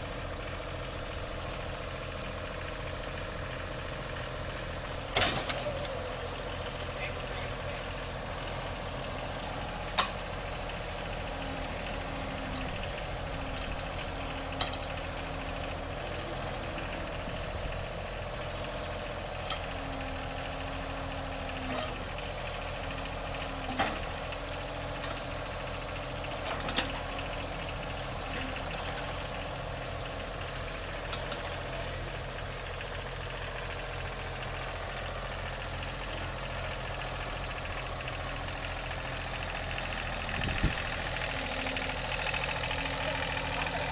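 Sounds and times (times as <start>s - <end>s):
backhoe engine running: 0.0s - 43.9s.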